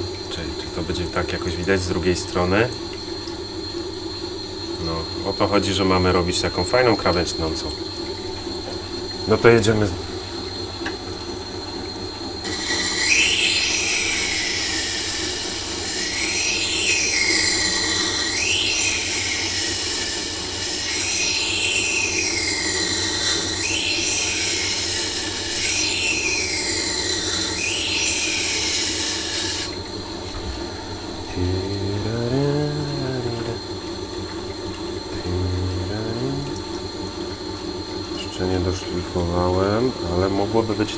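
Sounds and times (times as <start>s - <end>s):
motor humming: 0.0s - 40.9s.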